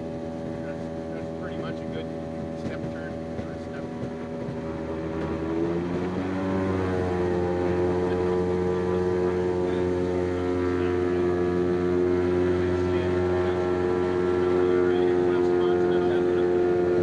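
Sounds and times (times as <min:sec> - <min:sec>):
aircraft engine and propeller drone: 0:00.0 - 0:17.0.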